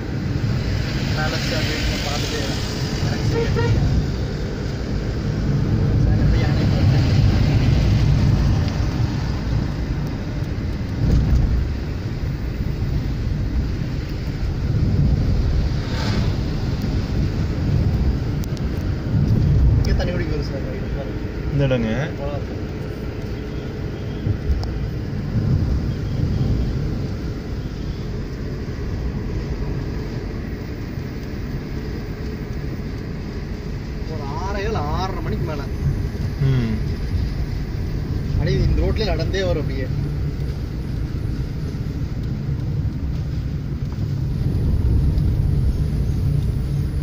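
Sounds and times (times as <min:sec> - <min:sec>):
car engine and road rumble: 0:00.0 - 0:47.0
truck passing: 0:00.0 - 0:47.0.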